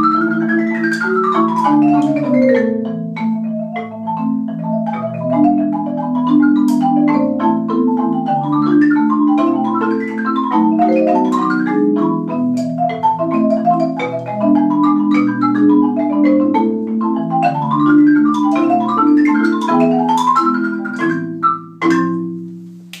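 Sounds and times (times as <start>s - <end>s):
marimba duet: 0.0s - 23.0s.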